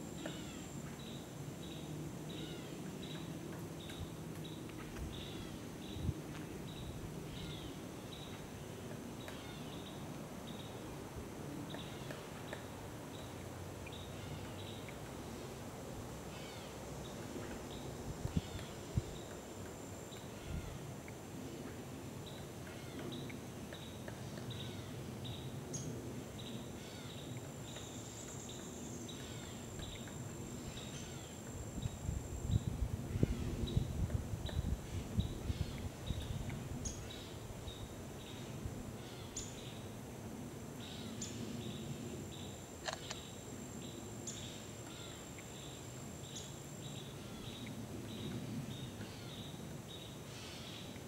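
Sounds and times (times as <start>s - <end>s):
high insect hum: 0.0s - 51.0s.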